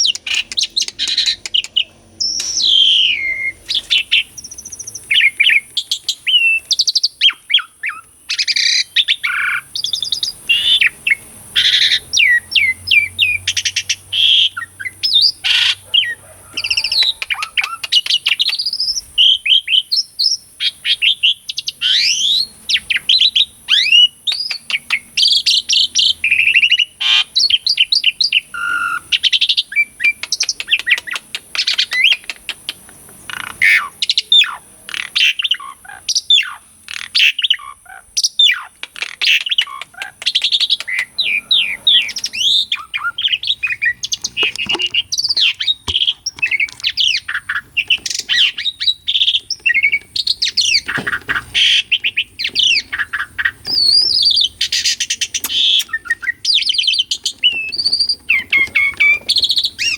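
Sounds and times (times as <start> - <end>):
starling singing: 0.0 - 59.9.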